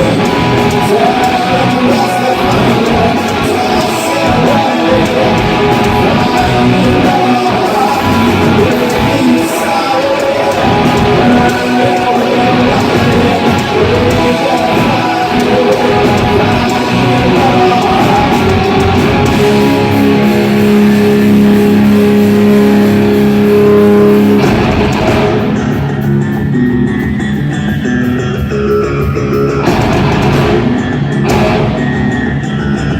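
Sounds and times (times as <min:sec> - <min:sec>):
distorted electric guitar riffing: 0:00.0 - 0:32.9
drum kit: 0:00.0 - 0:32.9.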